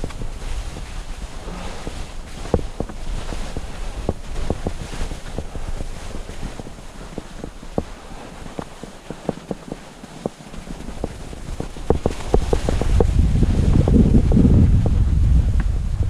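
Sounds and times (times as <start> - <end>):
skis scraping over snow: 0.0 - 16.0
wind on microphone: 0.0 - 16.0.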